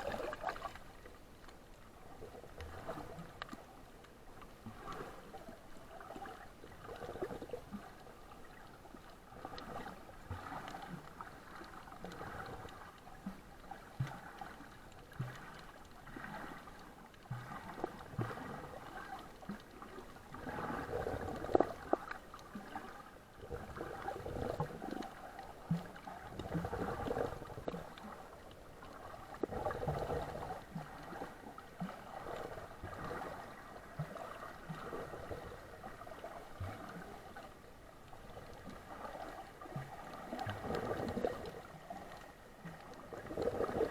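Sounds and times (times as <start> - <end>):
water sloshing and gurgling: 0.0 - 43.9.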